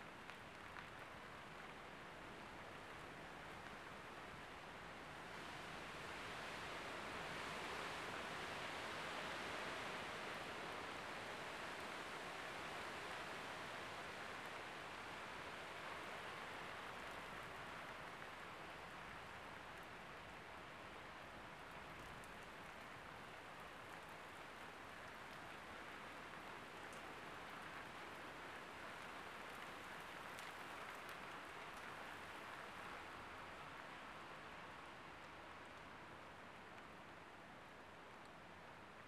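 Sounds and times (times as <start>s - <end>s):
rain hiss: 0.0s - 39.0s.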